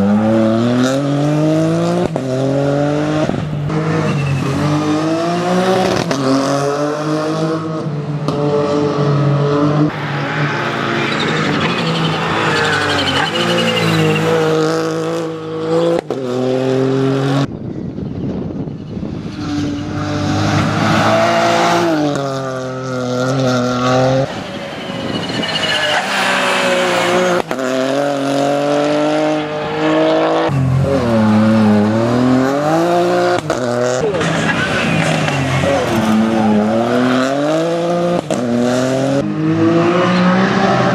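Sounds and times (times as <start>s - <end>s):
rally car engine revving: 0.0s - 17.5s, 18.9s - 40.9s.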